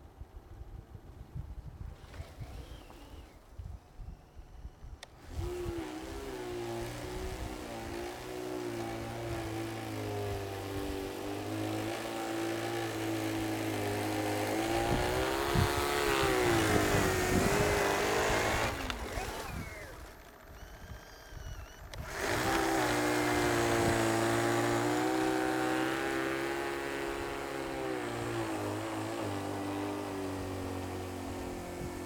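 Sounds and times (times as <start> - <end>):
snow blower motor whining: 2.0 - 32.0.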